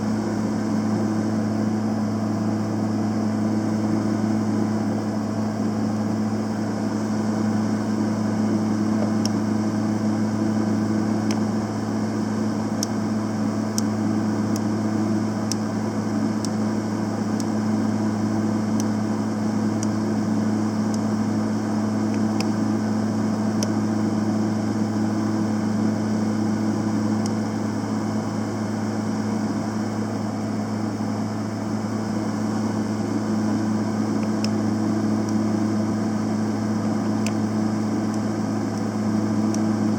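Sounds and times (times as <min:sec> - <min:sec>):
welder humming: 0:00.0 - 0:39.9.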